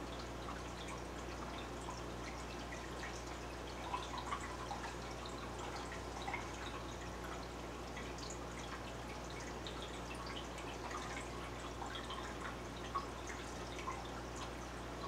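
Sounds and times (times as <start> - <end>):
aquarium water trickling: 0.0 - 15.0
water drips and plops: 0.0 - 15.0.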